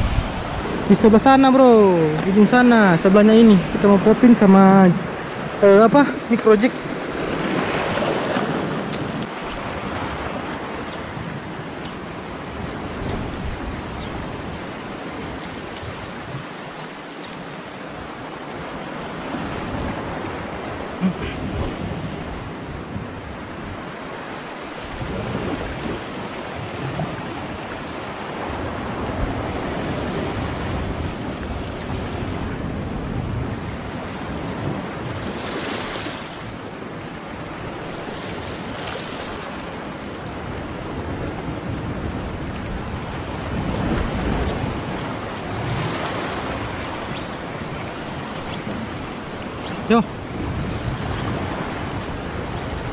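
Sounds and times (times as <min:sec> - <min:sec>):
wind buffeting microphone: 0:00.0 - 0:01.4, 0:02.0 - 0:24.1, 0:24.7 - 0:35.8, 0:36.4 - 0:52.9.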